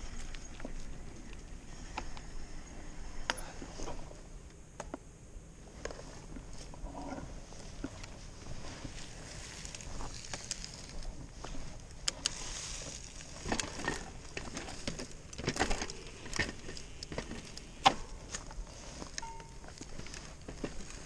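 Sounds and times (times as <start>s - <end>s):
bike tyres crunching leaves and gravel: 0.0s - 4.0s, 7.5s - 21.0s.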